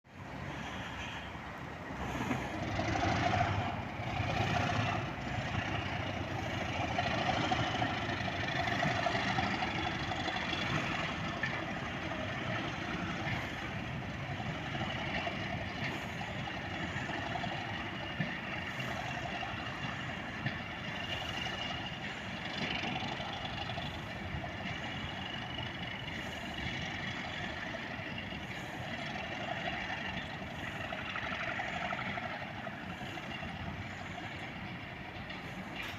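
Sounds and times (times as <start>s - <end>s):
diesel locomotive engine running: 0.0s - 35.9s.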